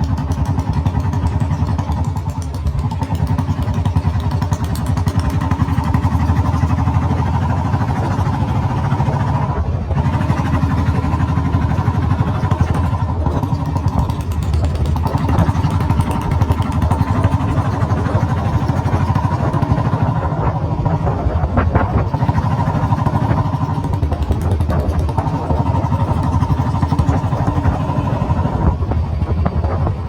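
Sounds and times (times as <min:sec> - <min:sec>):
motorcycle engine thumping: 0:00.0 - 0:30.0.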